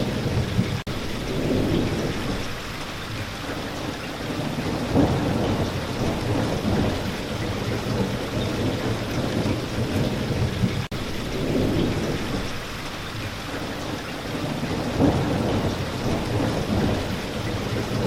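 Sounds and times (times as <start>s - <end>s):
low rumble of thunder: 0.0s - 18.0s
steady rainfall: 0.0s - 18.0s.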